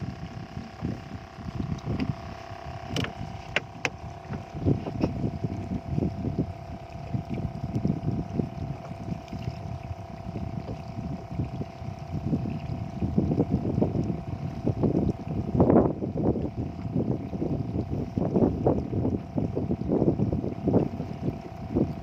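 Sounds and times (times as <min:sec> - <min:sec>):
faint steady hum: 0:00.0 - 0:22.0
wind buffeting microphone: 0:00.0 - 0:22.0.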